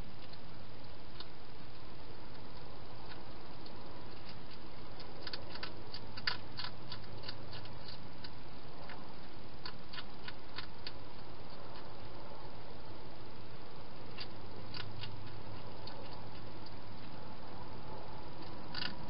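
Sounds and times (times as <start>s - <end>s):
hedgehog crunching food: 0.0s - 19.0s
steady hiss: 0.0s - 19.0s.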